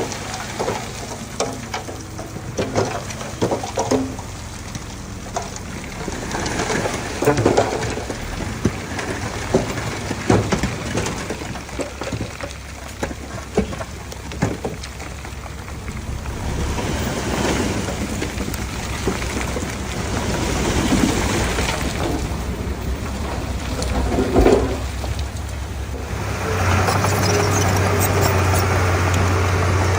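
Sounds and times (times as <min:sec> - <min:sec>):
bulldozer diesel engine rumble: 0:00.0 - 0:29.9
sharp knocks and clanks: 0:00.6 - 0:04.7, 0:05.3 - 0:28.7.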